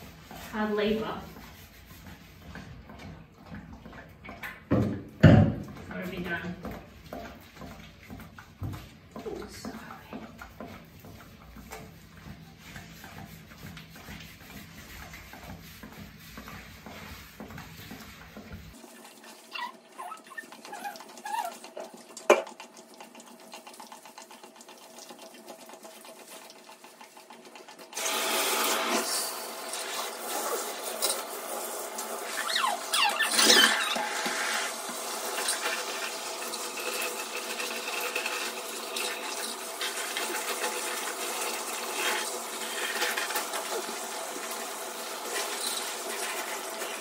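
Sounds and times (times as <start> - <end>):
shower water running: 0.0 - 47.0.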